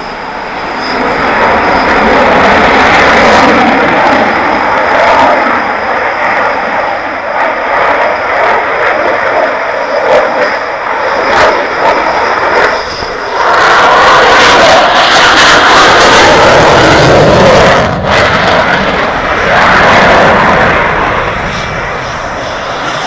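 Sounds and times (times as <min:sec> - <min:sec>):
aircraft engine roar: 0:00.0 - 0:23.0
faint high whine: 0:00.0 - 0:23.0.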